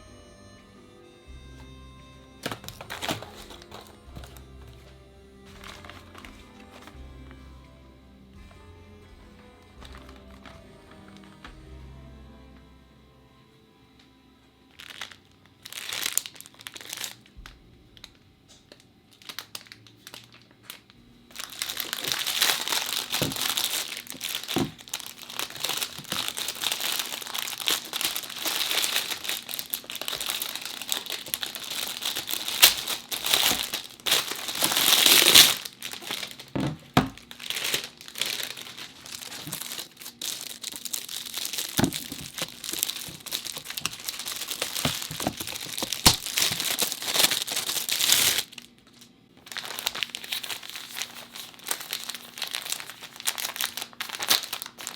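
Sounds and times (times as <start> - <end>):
packaging crinkling: 2.4 - 7.0, 9.8 - 11.4, 14.7 - 54.9.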